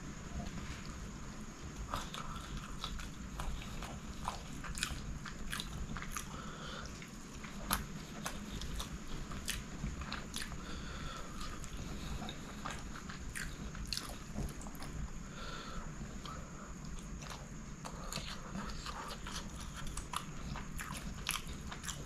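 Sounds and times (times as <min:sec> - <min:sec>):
close-up chewing: 0:01.8 - 0:22.0.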